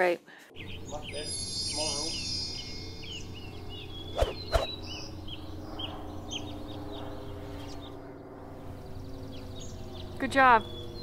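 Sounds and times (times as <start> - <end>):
small birds chirping: 0.5 - 11.0
steady low hum: 2.0 - 11.0.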